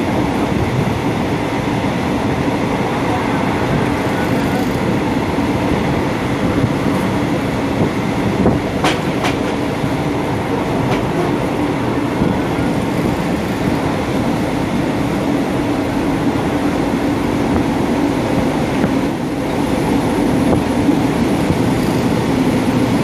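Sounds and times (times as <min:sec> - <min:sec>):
moving train running noise: 0:00.0 - 0:23.0.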